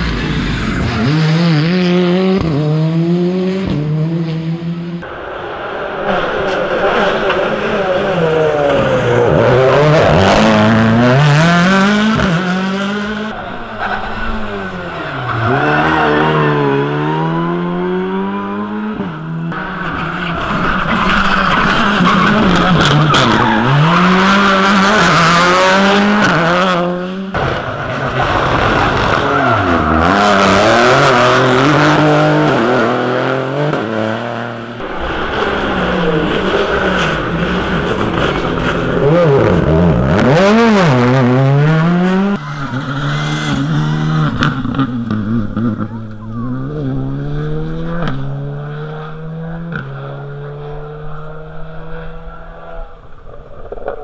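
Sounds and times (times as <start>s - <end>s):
rally car engines revving hard: 0.0s - 5.1s, 6.0s - 54.0s.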